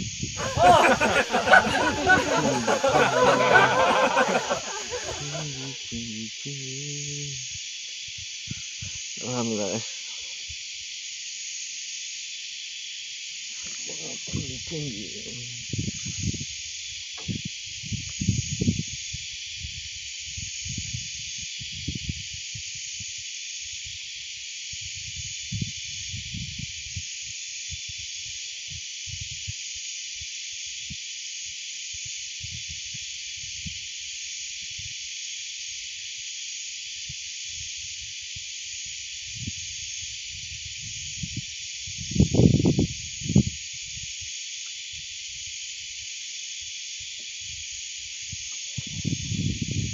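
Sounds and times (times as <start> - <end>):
high-pitched insect chorus: 5.2 - 49.9.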